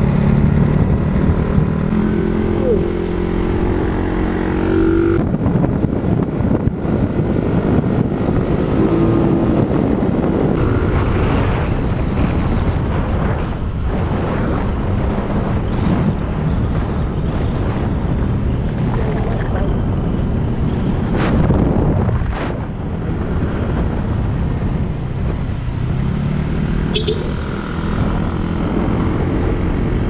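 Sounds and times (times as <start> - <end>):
vehicle running noise: 0.0 - 30.0
wind rumble: 0.0 - 30.0.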